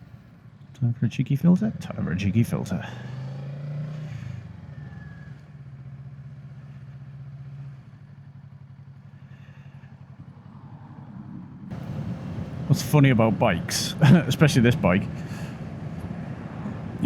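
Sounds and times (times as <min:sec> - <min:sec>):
motorcycle engine running: 0:01.4 - 0:17.0.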